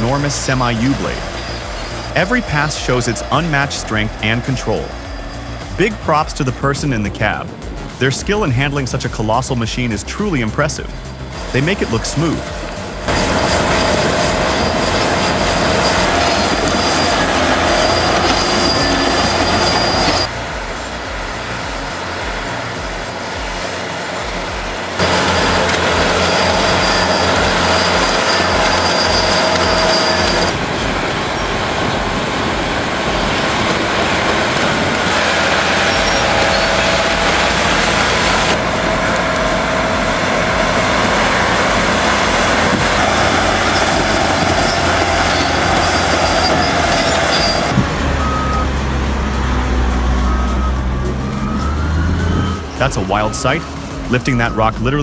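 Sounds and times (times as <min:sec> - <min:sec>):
heavy diesel machinery engine: 0:00.0 - 0:55.0
machinery whining tones: 0:00.0 - 0:55.0.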